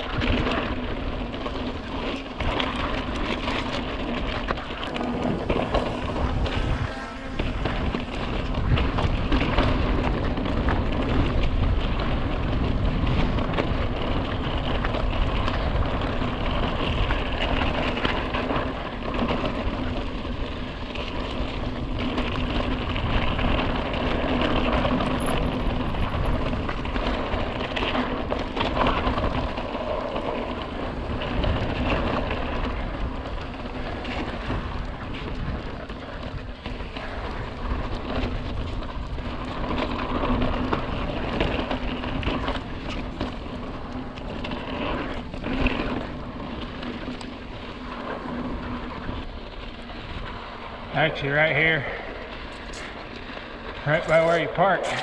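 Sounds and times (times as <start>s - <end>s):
bike tyres crackling on dirt: 0.0s - 55.0s
wind on microphone: 0.0s - 55.0s.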